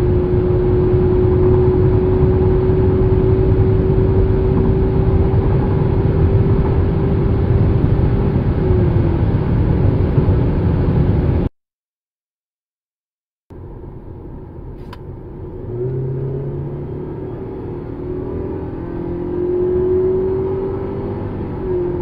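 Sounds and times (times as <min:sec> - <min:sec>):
car engine accelerating: 0:00.0 - 0:11.5, 0:13.5 - 0:22.0.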